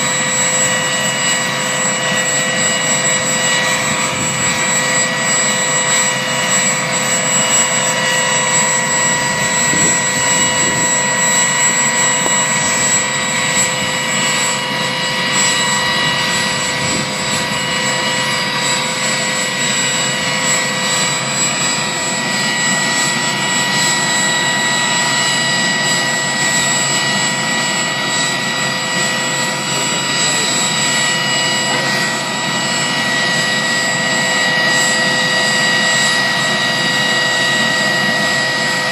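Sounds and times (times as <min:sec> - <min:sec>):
helicopter turbine engines whining: 0:00.0 - 0:38.9.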